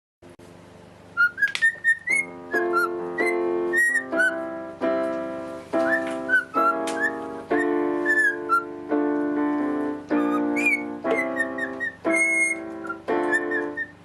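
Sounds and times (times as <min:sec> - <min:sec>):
whistled melody: 0:01.1 - 0:04.7, 0:05.7 - 0:14.0.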